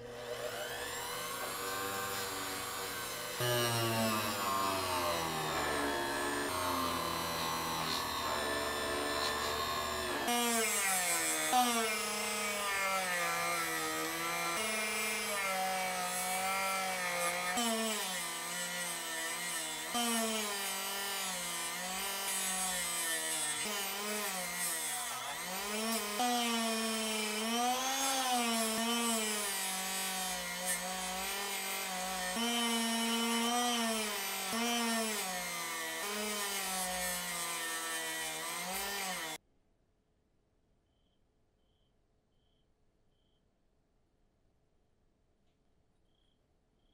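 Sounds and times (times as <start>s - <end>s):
bench grinder motor: 0.0s - 39.4s.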